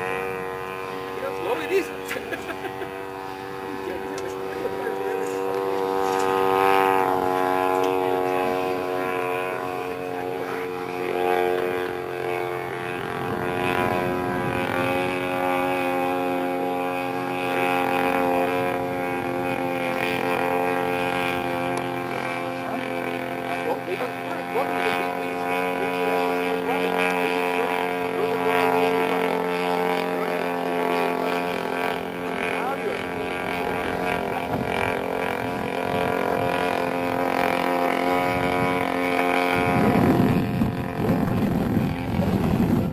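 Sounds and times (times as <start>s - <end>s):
model plane engine running: 0.0s - 42.9s.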